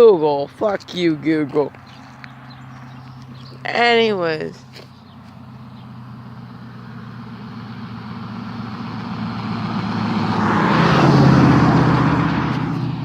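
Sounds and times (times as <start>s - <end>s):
motor vehicle driving past: 1.2s - 3.7s, 4.5s - 13.0s.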